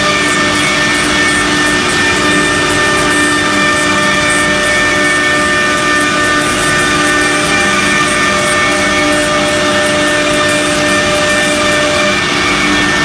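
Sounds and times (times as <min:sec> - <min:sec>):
cnc router spindle whine: 0:00.0 - 0:13.0
dust extraction rushing: 0:00.0 - 0:13.0.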